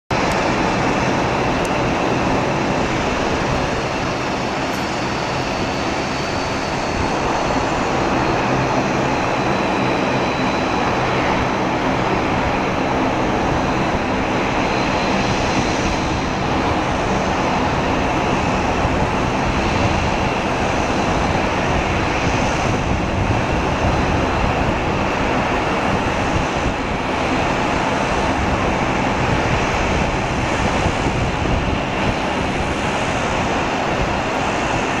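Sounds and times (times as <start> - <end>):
jet engine rush: 0.1 - 35.0
faint high engine whine: 0.2 - 35.0.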